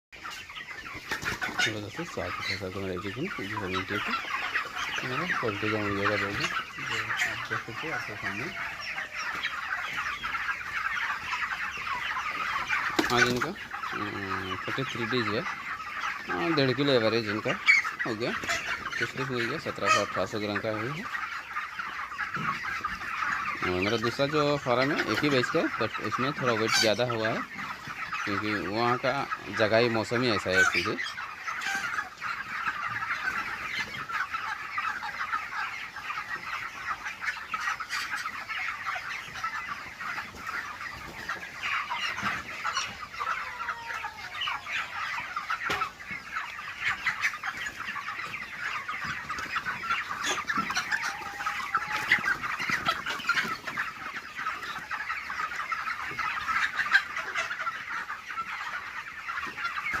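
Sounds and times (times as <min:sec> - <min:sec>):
chickens clucking and calling: 0:00.2 - 1:00.0.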